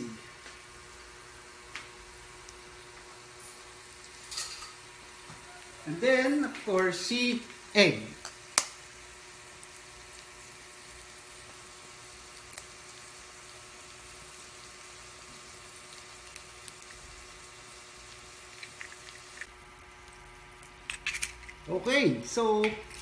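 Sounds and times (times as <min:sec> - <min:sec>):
food sizzling on hot plate: 0:00.0 - 0:23.0.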